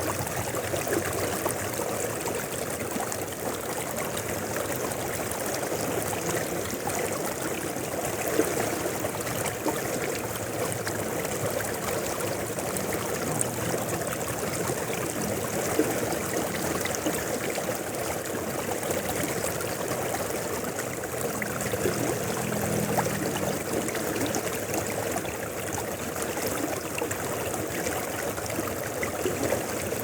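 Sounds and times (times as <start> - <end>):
river water flowing: 0.0 - 30.0
water splashes: 0.0 - 30.0.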